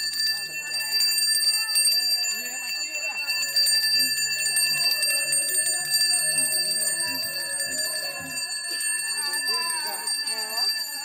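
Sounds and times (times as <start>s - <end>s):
faint crowd murmur: 0.0s - 11.0s
hand bell ringing rapidly: 0.0s - 11.0s.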